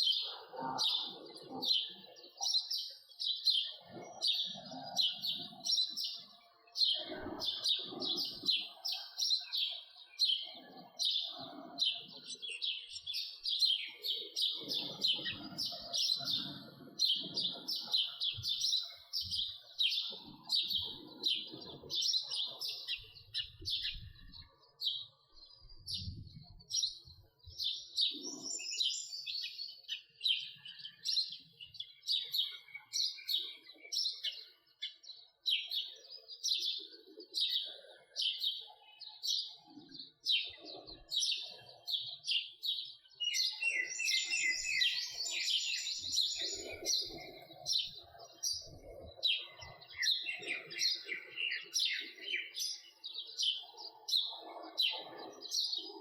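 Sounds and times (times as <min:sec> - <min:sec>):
sparrow chirping: 0:00.0 - 0:56.0.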